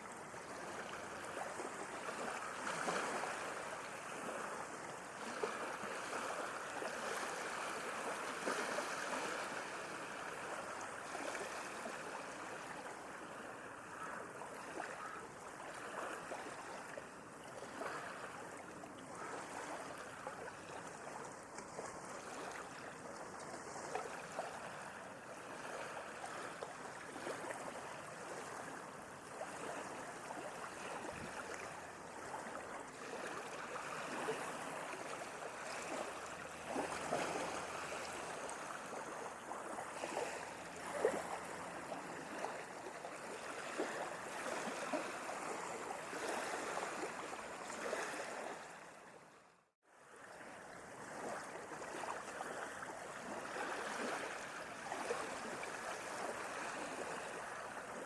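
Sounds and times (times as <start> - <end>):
small waves lapping and splashing: 0.0 - 58.0.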